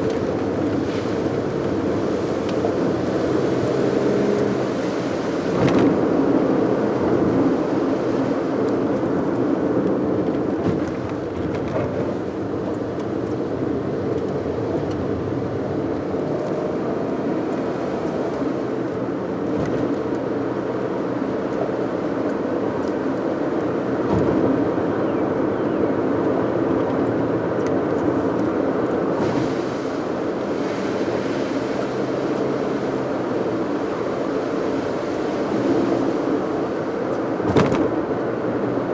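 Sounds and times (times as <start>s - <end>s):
car engine hum: 0.0s - 38.9s
tyre and road noise: 0.0s - 38.9s.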